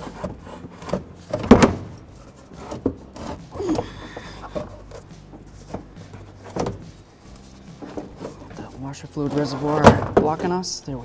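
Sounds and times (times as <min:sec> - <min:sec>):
plastic shroud knocking and scraping: 0:00.0 - 0:10.6.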